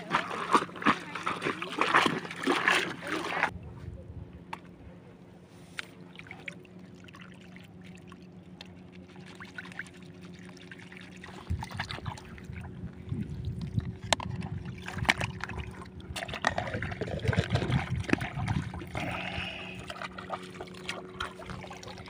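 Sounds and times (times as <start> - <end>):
water sloshing and splashing: 0.0 - 3.6, 5.6 - 22.0.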